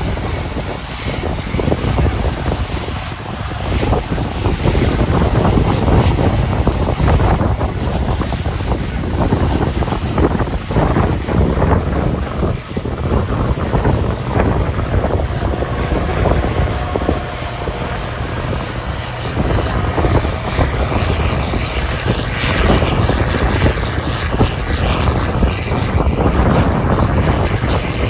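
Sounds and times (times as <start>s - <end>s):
machinery engine droning: 0.0s - 28.0s
wind noise on microphone: 0.0s - 28.0s.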